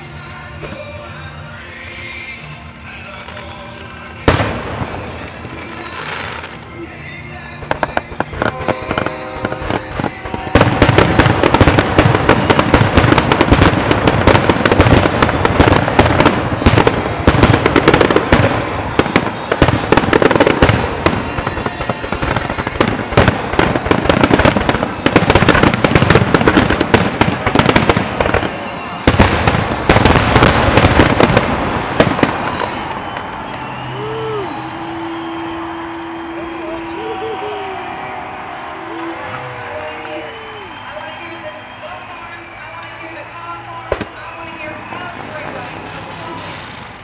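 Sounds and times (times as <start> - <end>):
fireworks bangs and crackles: 3.1 - 47.0.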